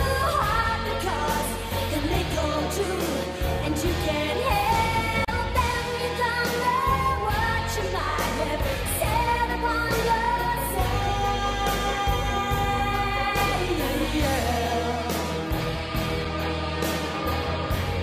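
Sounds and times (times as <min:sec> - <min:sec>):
song with vocals and beat: 0:00.0 - 0:18.0.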